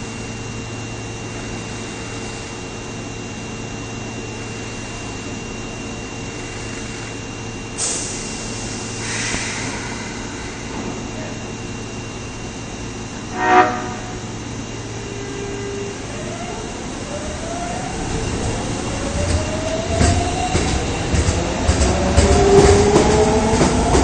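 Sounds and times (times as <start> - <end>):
train electrical hum with whine: 0.0 - 24.0.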